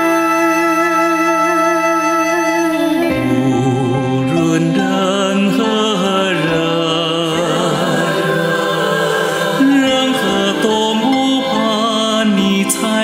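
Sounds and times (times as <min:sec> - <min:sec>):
song with sung vocals: 0:00.0 - 0:13.0.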